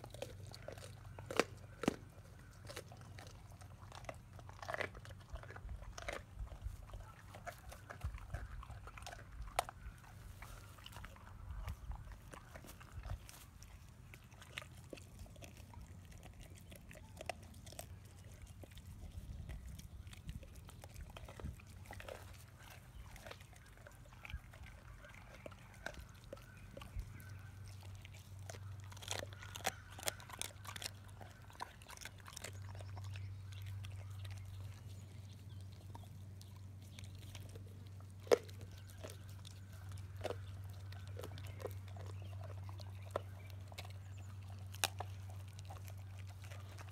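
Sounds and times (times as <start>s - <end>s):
bones crunching and cracking: 0.0s - 46.9s
dogs chewing wetly: 0.0s - 46.9s.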